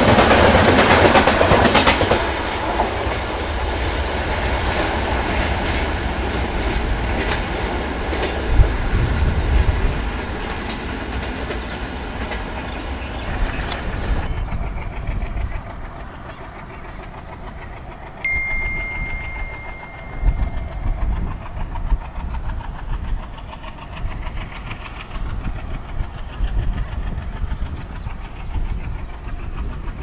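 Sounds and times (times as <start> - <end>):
diesel locomotive engine chugging: 0.0 - 30.0
passing train clatter: 0.0 - 30.0.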